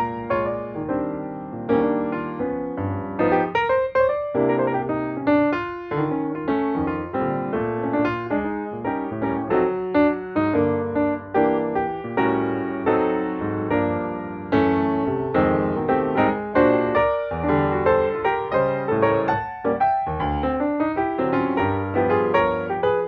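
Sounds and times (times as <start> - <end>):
piano playing: 0.0 - 23.0.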